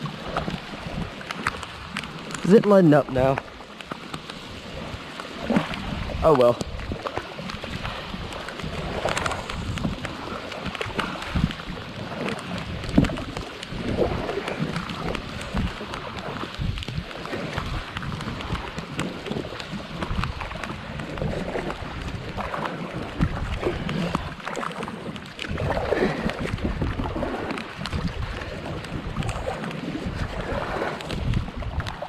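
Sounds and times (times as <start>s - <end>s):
heavy rain on water: 0.0s - 32.0s
wind buffeting microphone: 0.0s - 32.0s.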